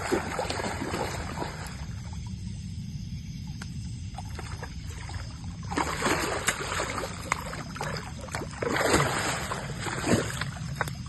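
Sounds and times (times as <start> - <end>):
fish thrashing and splashing water: 0.0 - 2.0, 4.2 - 11.0.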